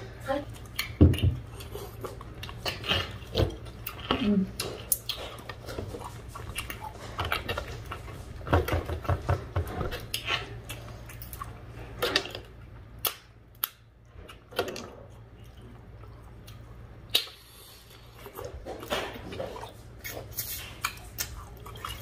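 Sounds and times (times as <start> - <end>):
wet smacking eating: 0.5 - 22.0.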